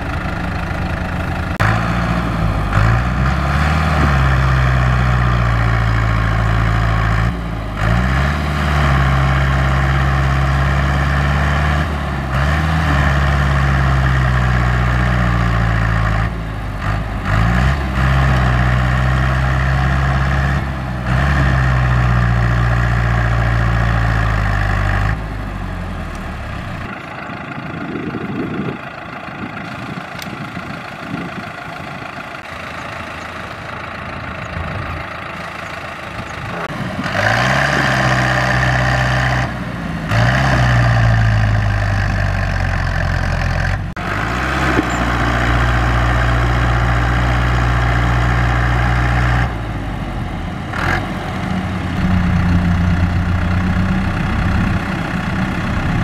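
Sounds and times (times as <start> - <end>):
tractor diesel engine under load: 0.0 - 56.0
tractor engine revving loudly: 0.0 - 56.0.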